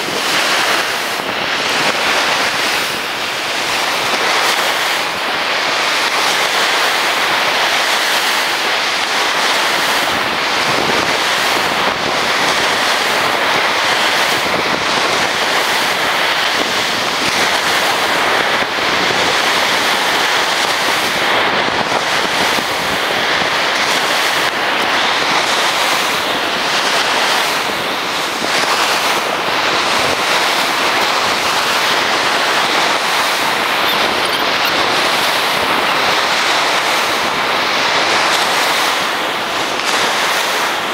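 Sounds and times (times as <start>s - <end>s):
sea surf breaking on beach: 0.0s - 40.9s
wind on microphone: 0.0s - 40.9s.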